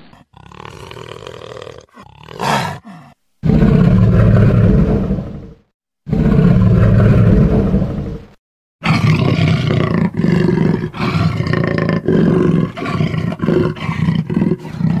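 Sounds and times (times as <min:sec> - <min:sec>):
jaguar roaring: 0:00.0 - 0:15.0.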